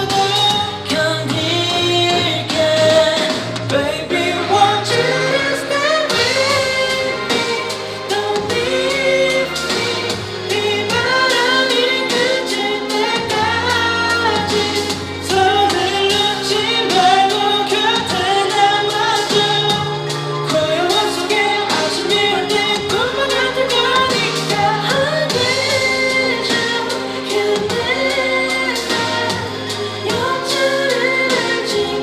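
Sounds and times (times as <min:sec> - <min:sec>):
male vocals singing: 0:00.0 - 0:32.0
pop-rock band playing: 0:00.0 - 0:32.0.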